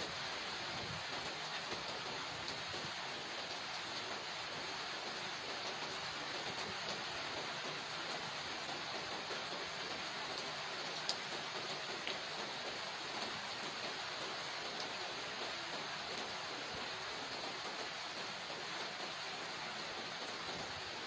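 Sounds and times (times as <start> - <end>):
steady rain on paving and leaves: 0.0 - 21.0.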